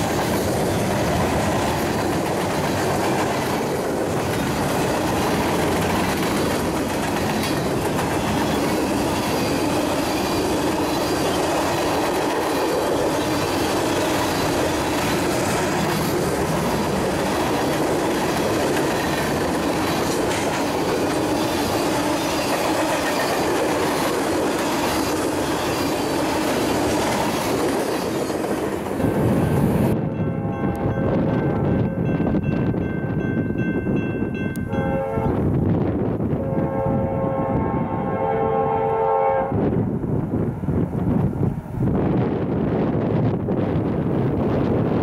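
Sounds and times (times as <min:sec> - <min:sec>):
train wheels rumbling on rails: 0:00.0 - 0:38.8, 0:39.4 - 0:45.0.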